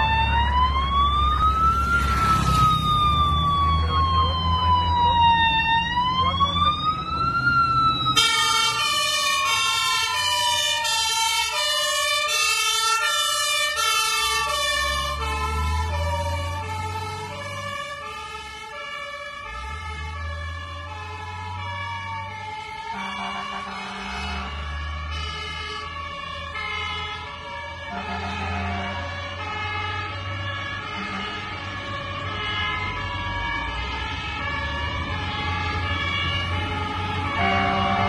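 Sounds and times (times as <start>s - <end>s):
fire engine siren wailing: 0.0s - 38.0s
stepped alternating siren tones: 0.0s - 38.0s
truck engine rumble: 0.0s - 38.0s.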